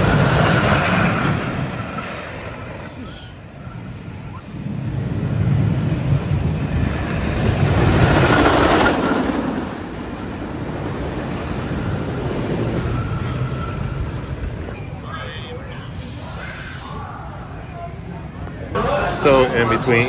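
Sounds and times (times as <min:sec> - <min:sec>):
roller coaster rumbling past: 0:00.0 - 0:20.0.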